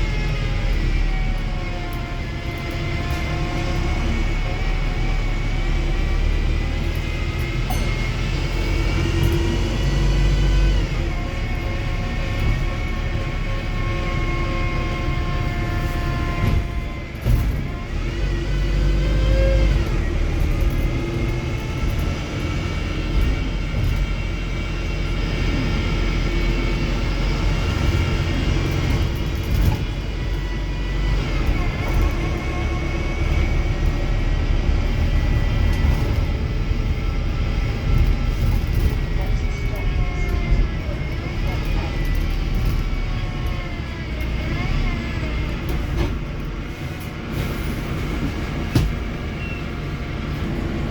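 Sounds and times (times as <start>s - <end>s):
bus engine rumble: 0.0s - 50.9s
whining drivetrain: 0.0s - 50.9s.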